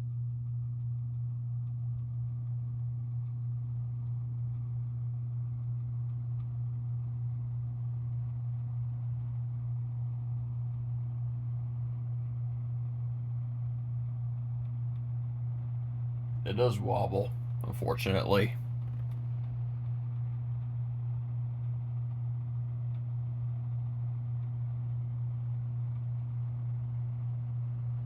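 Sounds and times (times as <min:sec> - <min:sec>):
ceiling fan motor hum: 0:00.0 - 0:28.0.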